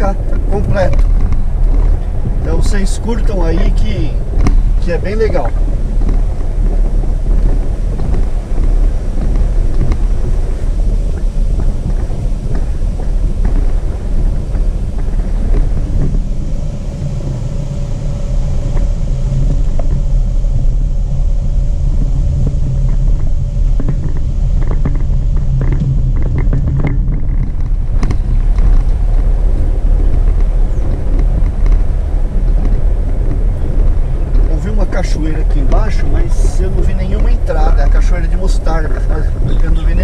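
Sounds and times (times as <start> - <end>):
knocks from rough road: 0.0 - 16.7, 18.6 - 40.0
engine and road rumble: 0.0 - 40.0.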